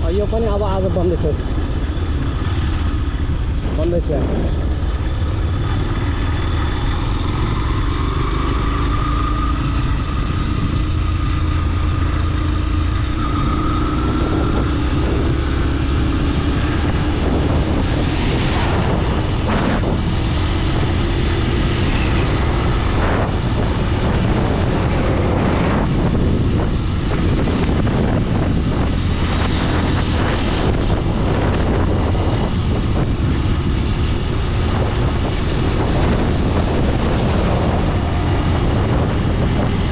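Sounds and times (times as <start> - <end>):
vehicle road rumble: 0.0 - 39.9.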